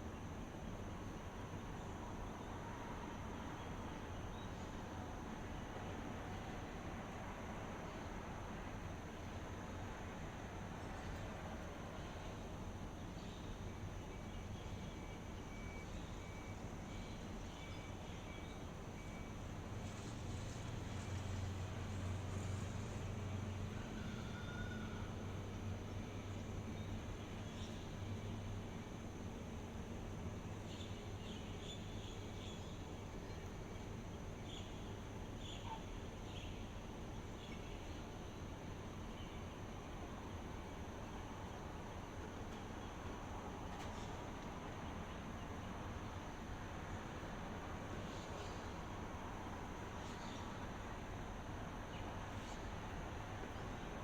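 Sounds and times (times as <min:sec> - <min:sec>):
outdoor rumble and hiss: 0:00.0 - 0:54.0.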